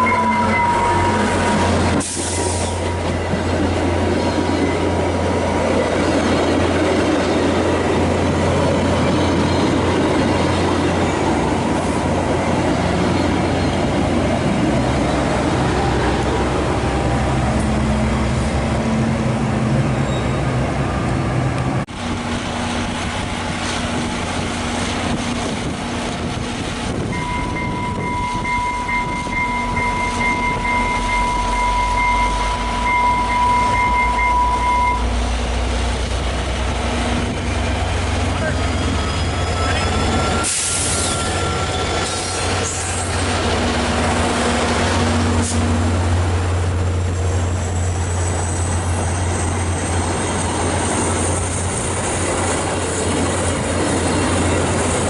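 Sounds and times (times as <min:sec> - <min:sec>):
rail cars rumbling: 0:00.0 - 0:55.0.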